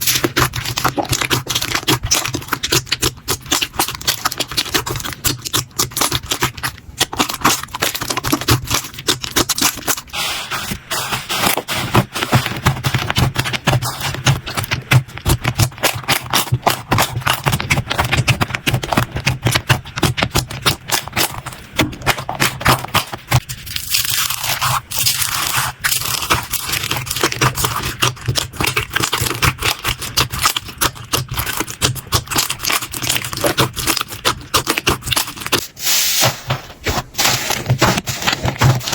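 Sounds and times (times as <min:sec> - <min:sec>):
slime crackling and popping: 0:00.0 - 0:35.7.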